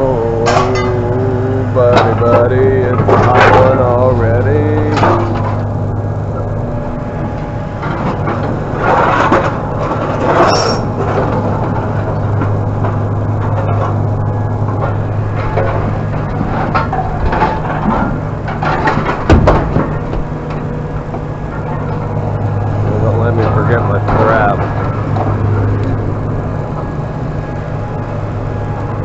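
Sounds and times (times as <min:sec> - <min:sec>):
vehicle engine idling: 0:00.0 - 0:29.0.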